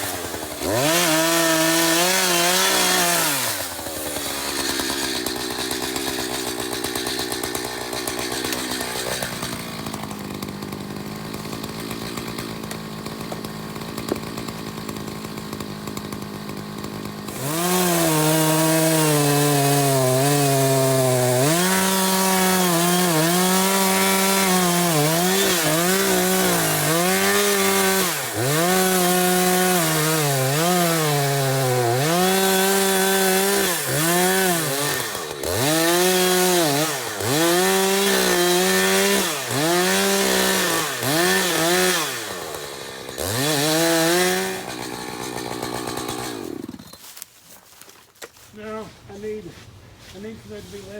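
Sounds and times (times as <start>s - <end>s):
chainsaw idling and cutting wood: 0.0s - 50.9s.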